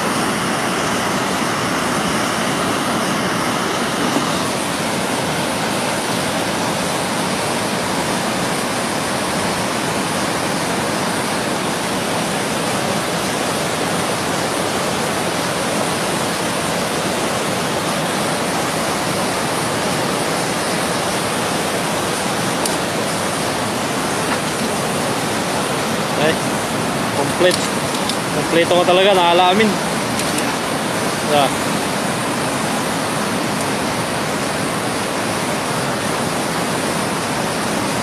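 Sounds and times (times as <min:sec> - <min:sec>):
river rapids rushing: 0:00.0 - 0:38.0.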